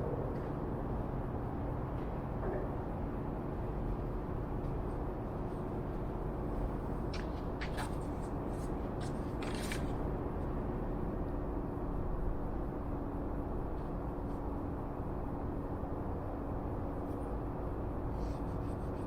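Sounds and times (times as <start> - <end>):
workshop hum and hiss: 0.0 - 19.0.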